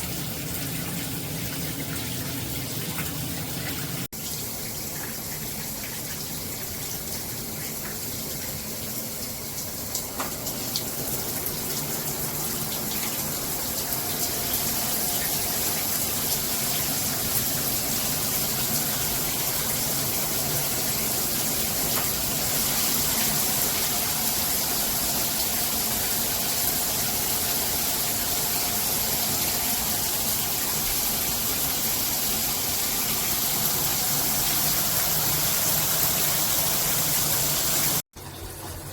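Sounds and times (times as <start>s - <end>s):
shower spraying onto tub and tiles: 0.0s - 38.0s.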